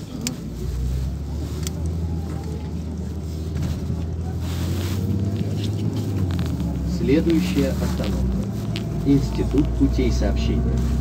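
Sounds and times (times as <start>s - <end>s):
bus engine and road noise drone: 0.0s - 11.0s.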